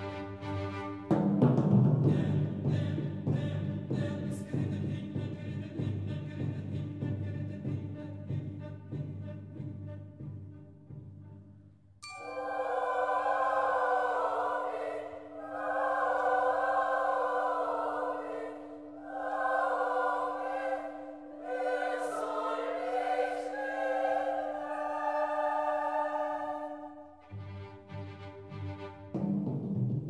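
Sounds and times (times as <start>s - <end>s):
choir singing: 0.0s - 8.3s, 12.0s - 27.9s.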